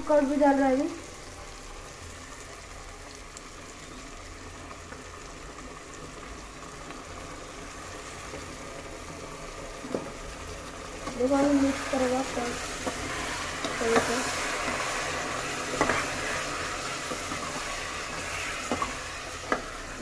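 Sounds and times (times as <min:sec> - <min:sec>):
low sizzling hiss: 0:00.0 - 0:20.0.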